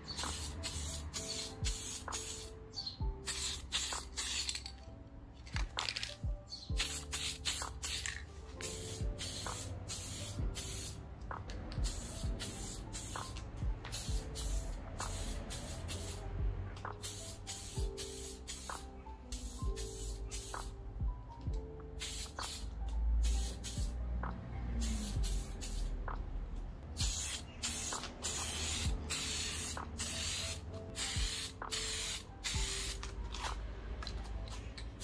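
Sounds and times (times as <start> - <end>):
spray paint can hissing: 0.0 - 2.5, 3.2 - 4.8, 5.4 - 20.7, 22.0 - 24.0, 24.8 - 25.9, 27.0 - 33.6
lo-fi background music: 0.0 - 35.0.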